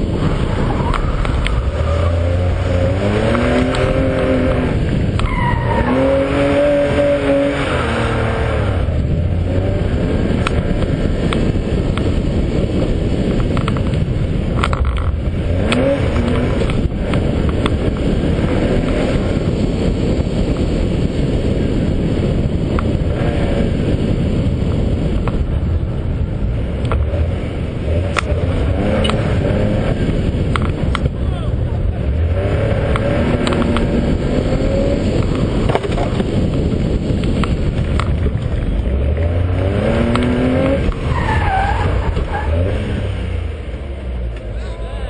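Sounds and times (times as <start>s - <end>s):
car engine revving: 0.0s - 45.0s
road and wind noise: 0.0s - 45.0s.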